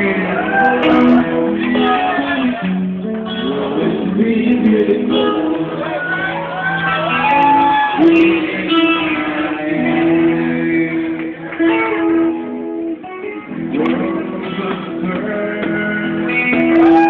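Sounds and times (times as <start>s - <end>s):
electric bass guitar: 0.0s - 17.0s
live band music: 0.0s - 17.0s.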